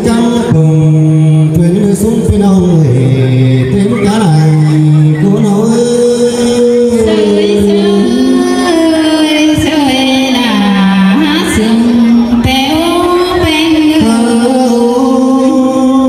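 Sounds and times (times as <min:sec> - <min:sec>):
amplified music: 0:00.0 - 0:16.0
man singing into microphone: 0:00.0 - 0:16.0.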